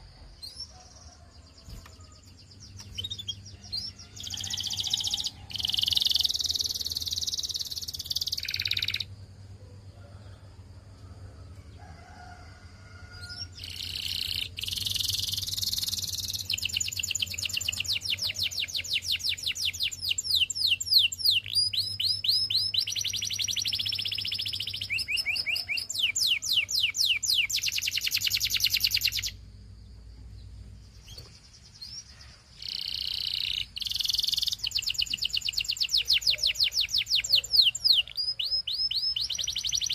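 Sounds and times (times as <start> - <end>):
canary singing trills: 0.0 - 9.1, 13.2 - 29.5, 30.4 - 39.9.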